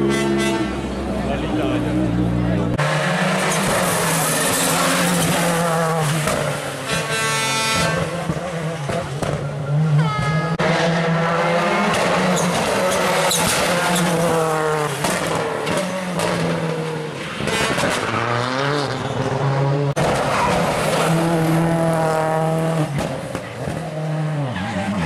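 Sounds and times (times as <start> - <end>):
rally car engines revving: 0.0 - 25.0
tyres skidding and squealing: 0.0 - 25.0.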